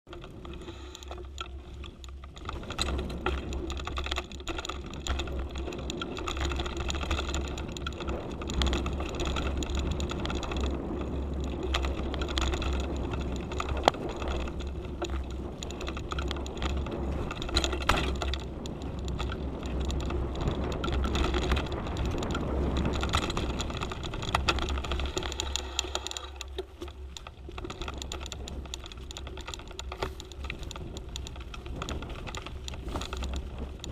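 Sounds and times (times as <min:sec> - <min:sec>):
bike rattling over bumps: 0:00.0 - 0:33.9
low wind rumble: 0:00.0 - 0:33.9
tyres rolling on dirt: 0:00.1 - 0:33.9.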